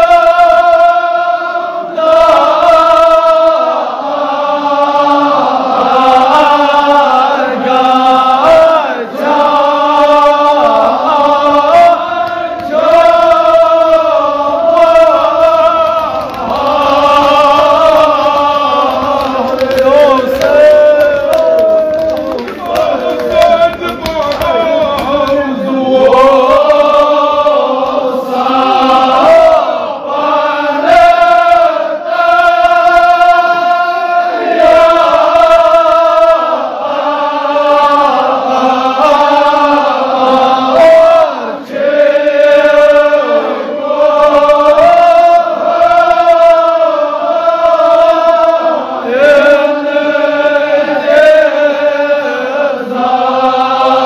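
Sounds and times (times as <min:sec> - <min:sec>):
men chanting a lament: 0:00.0 - 0:54.0.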